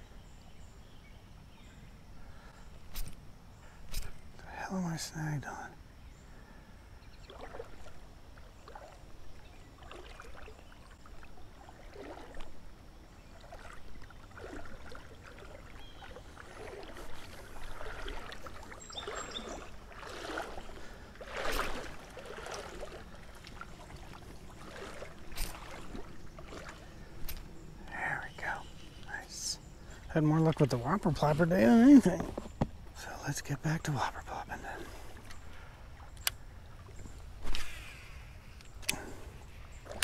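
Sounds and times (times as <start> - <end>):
creek water splashing: 2.1 - 5.7, 6.4 - 40.0.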